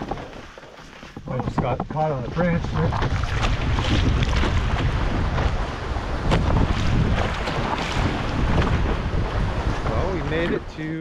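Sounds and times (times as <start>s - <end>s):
water splashing and lapping: 0.0s - 11.0s
wind buffeting microphone: 1.2s - 11.0s.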